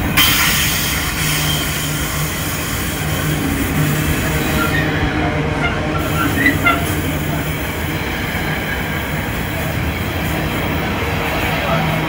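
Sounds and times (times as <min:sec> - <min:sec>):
train running past: 0:00.0 - 0:12.0.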